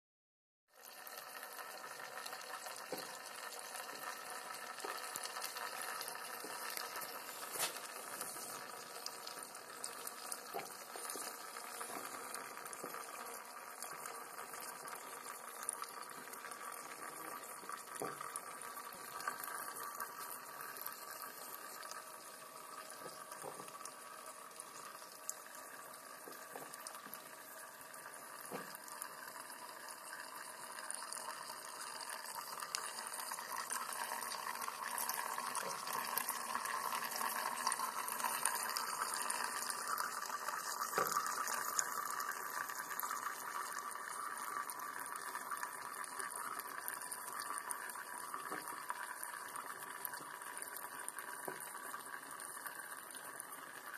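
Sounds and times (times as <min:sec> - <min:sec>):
liquid trickling and bubbling: 0:00.7 - 0:53.9.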